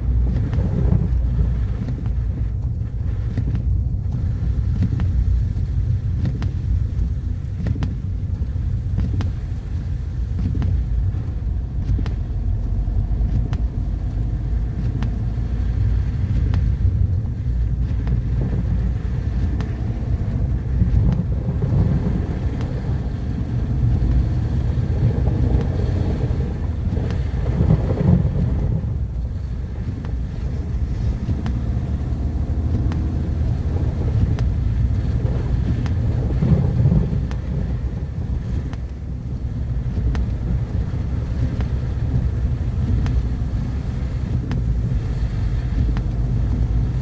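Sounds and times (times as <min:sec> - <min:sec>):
car engine and tyre rumble: 0:00.0 - 0:47.0
faint ticks: 0:00.1 - 0:47.0.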